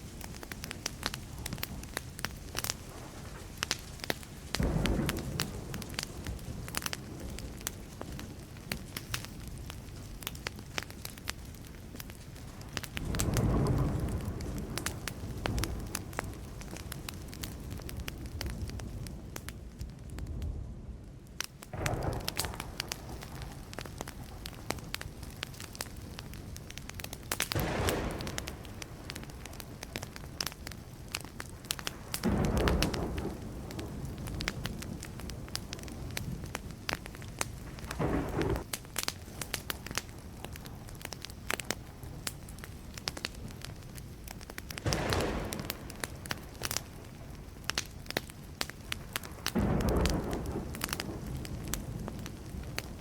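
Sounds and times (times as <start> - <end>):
rush of fire noise: 0.0 - 53.0
wood fire crackling: 0.0 - 53.0.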